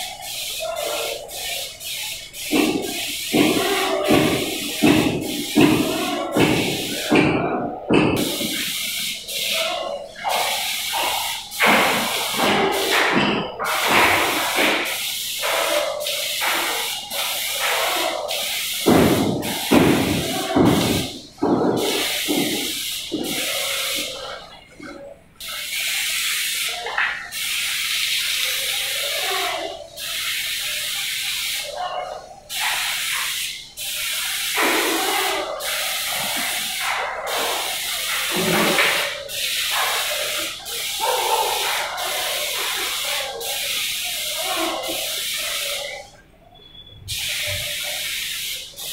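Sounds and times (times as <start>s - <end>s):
paint spray gun hissing: 0.0s - 24.5s, 25.4s - 46.2s, 47.1s - 48.9s.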